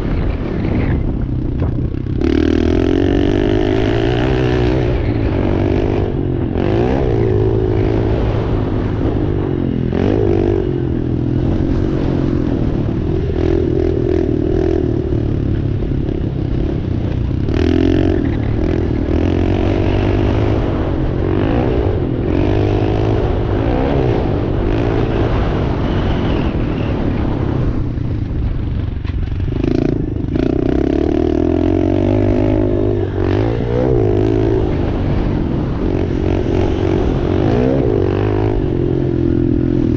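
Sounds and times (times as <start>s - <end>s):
bike rattling: 0.0s - 39.9s
dirt bike engine revving: 0.0s - 39.9s.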